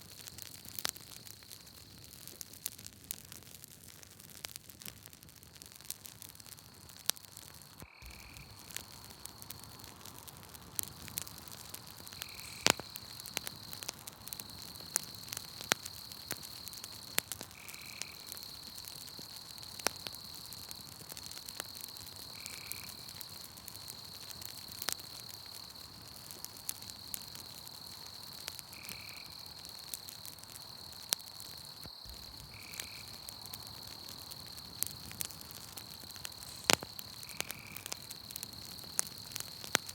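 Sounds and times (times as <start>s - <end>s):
campfire crackling and popping: 0.0s - 39.9s
high insect trill: 7.7s - 39.9s.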